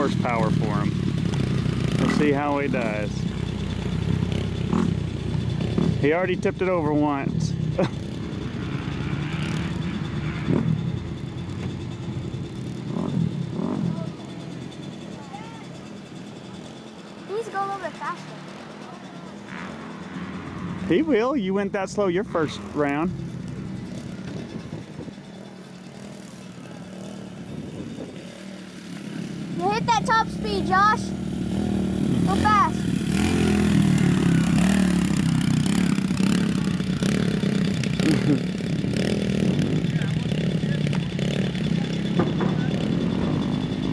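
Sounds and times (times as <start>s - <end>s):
small motorcycle engine revving: 0.0s - 43.9s.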